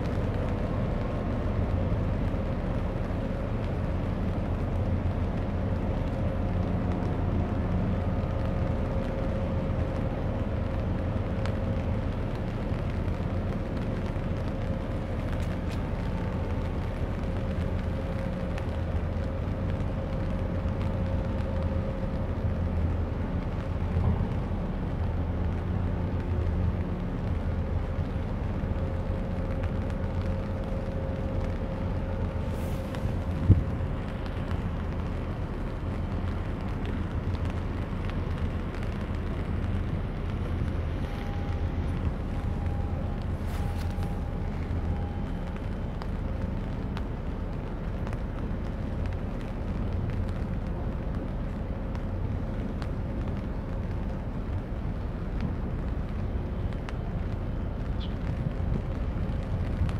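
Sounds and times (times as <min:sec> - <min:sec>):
ship engine low rumble: 0:00.0 - 0:59.9.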